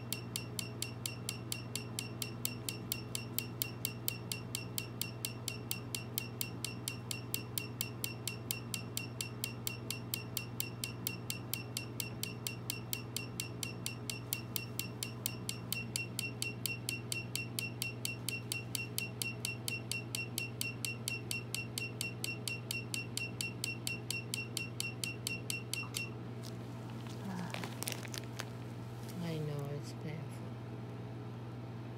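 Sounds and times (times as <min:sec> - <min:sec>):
low machine hum: 0:00.0 - 0:31.9
laser clicks and beeps: 0:00.1 - 0:26.1.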